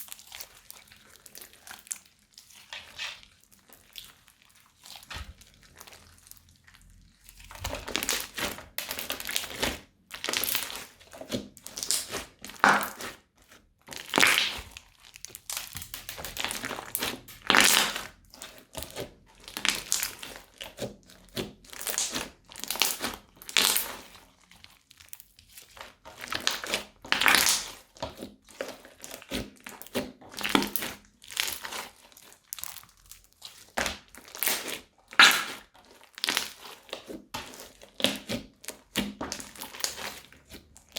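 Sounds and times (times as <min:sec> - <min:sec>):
crunchy slime crinkling and crackling: 0:00.0 - 0:40.9.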